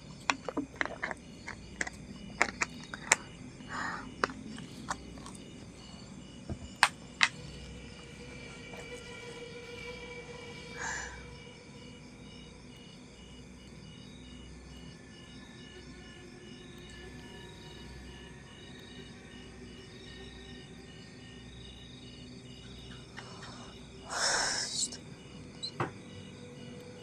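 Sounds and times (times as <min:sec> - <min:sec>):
cricket chirping: 0:00.0 - 0:27.0
insect trills: 0:00.0 - 0:27.0.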